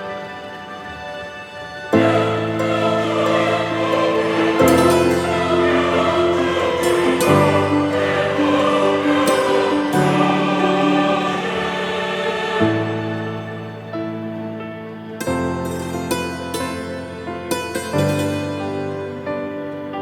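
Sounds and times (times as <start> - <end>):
slow choir-like chords: 0.0 - 20.0.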